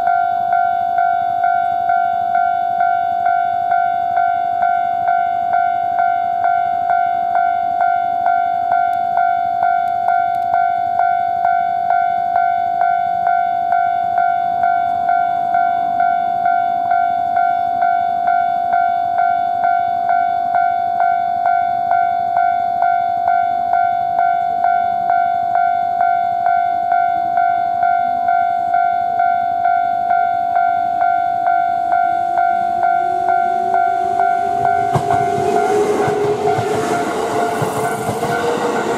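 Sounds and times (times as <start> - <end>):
electric train humming: 0.0 - 38.9
level crossing bell ringing: 0.0 - 38.9.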